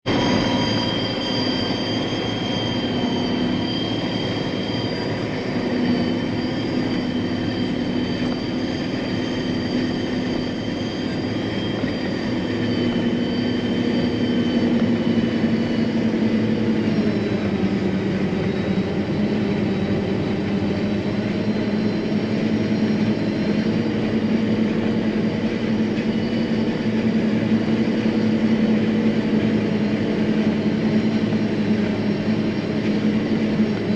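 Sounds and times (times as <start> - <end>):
high machine whines: 0.0 - 33.9
machine drone: 0.0 - 33.9.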